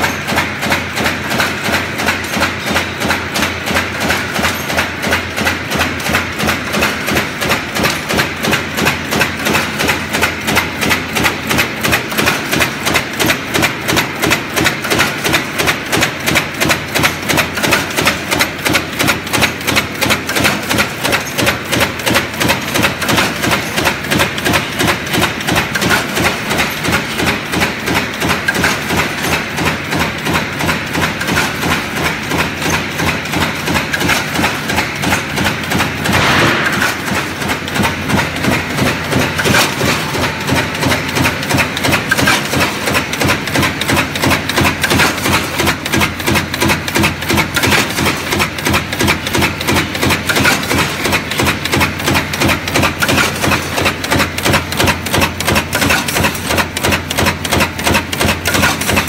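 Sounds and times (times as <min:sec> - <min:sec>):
press stamping with sharp clattering: 0:00.0 - 0:59.0.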